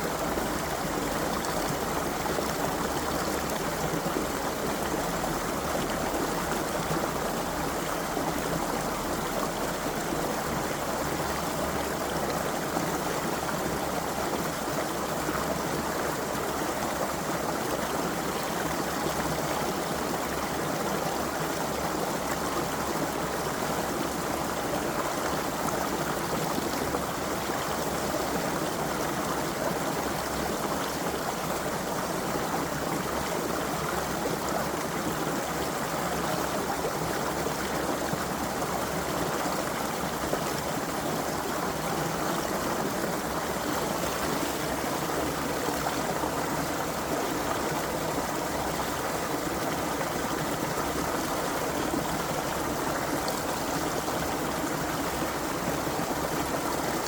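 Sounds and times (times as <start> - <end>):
creek water gurgling over stones: 0.0 - 57.0.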